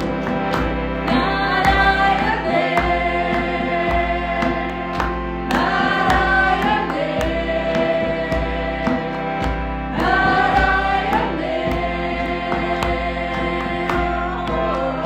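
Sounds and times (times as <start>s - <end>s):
choir singing held notes: 0.0s - 15.0s
slow steady beat: 0.0s - 15.0s.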